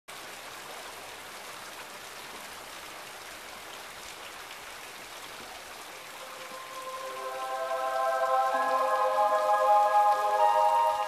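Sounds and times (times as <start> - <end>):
steady rain falling: 0.1 - 11.0.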